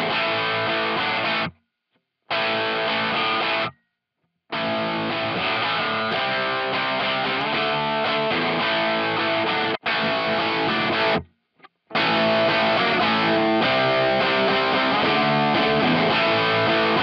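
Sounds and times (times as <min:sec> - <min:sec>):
distorted electric guitar: 0:00.0 - 0:01.6, 0:02.3 - 0:03.8, 0:04.5 - 0:11.3, 0:11.9 - 0:17.0.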